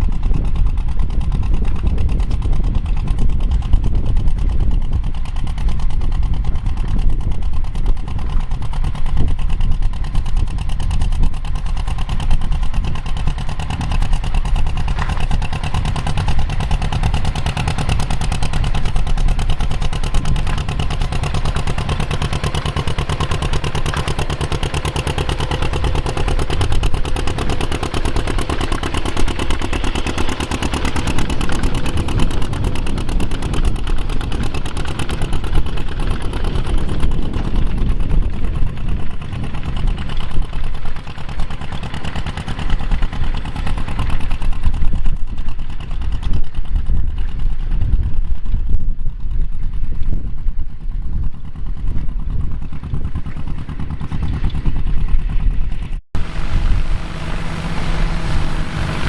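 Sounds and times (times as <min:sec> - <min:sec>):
farm machinery engine running: 0:00.0 - 0:59.0.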